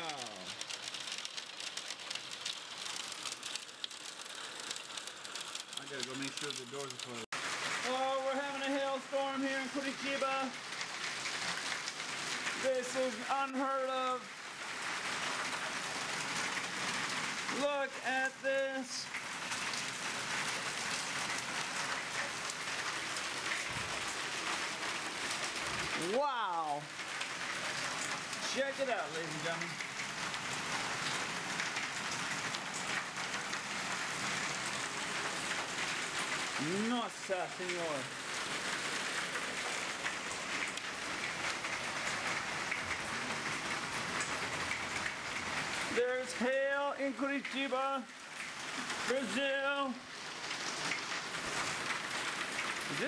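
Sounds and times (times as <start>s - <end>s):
hail and heavy rain pelting: 0.0s - 53.0s.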